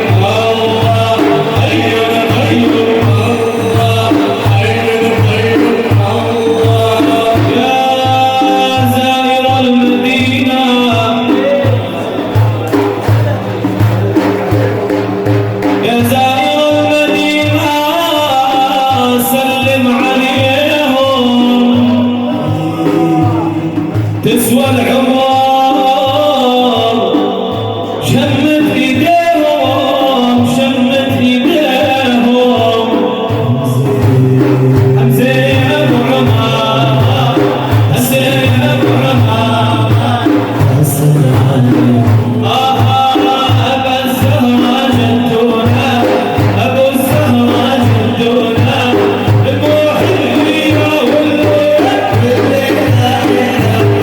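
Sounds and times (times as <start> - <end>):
hand drums beating: 0.0 - 54.0
person singing praise song: 0.0 - 54.0.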